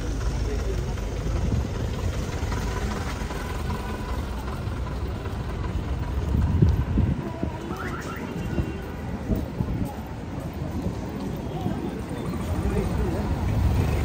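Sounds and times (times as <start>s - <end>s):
traffic passing on busy road: 0.0s - 14.0s.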